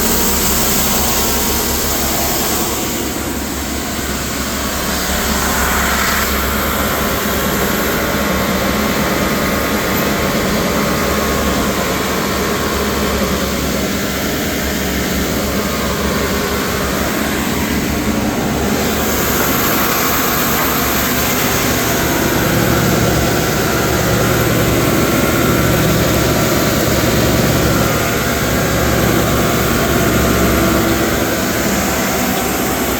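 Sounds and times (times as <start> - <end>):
machine rushing noise: 0.0 - 32.9.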